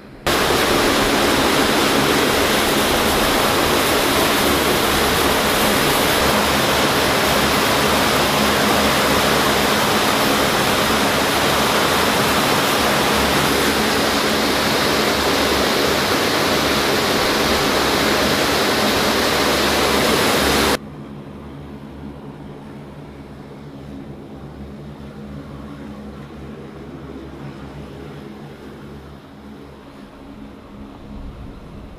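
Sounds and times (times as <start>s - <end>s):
turboprop engines running: 0.0s - 31.9s.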